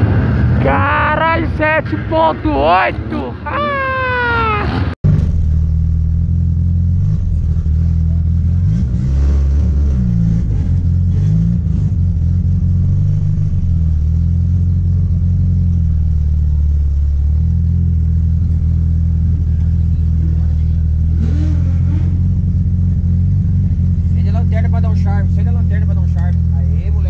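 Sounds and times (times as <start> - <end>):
car engine drone: 0.0 - 27.0.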